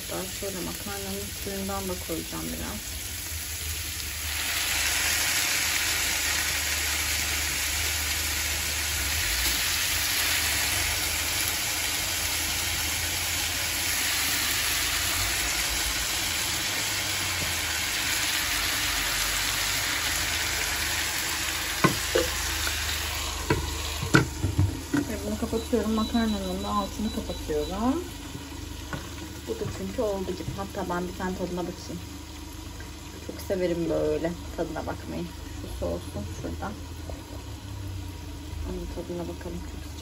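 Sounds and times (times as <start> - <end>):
food sizzling in a frying pan: 0.0 - 40.0.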